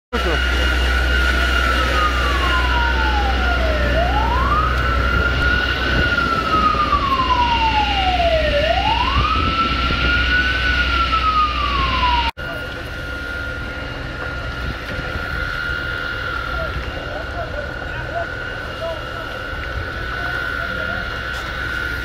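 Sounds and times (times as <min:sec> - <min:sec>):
emergency vehicle siren wailing: 0:00.2 - 0:22.0
steady low rumble: 0:00.2 - 0:22.0.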